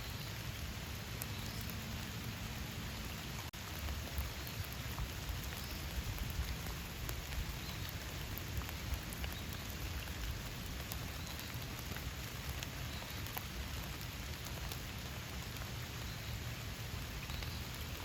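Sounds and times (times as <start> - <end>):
rain falling: 0.0 - 18.0
raindrops ticking: 0.0 - 18.0.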